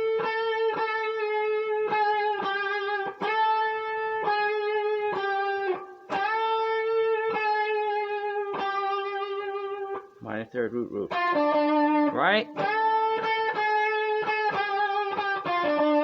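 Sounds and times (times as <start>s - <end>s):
electric guitar picked notes: 0.0s - 16.0s.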